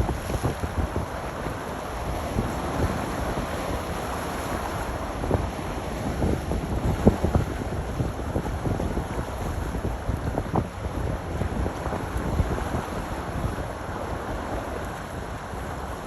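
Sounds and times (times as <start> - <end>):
low rumble of boats and water: 0.0 - 16.0
wind buffeting microphone: 0.0 - 16.0.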